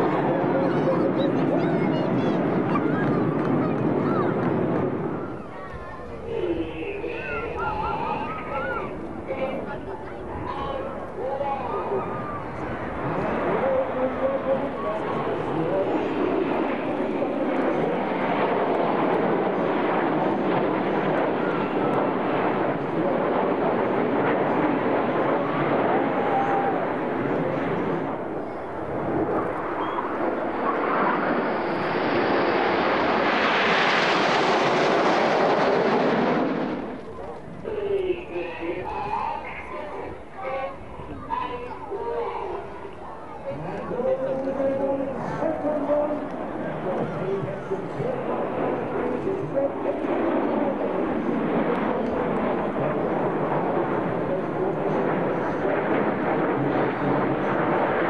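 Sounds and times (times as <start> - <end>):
jets flying over: 0.0 - 58.0.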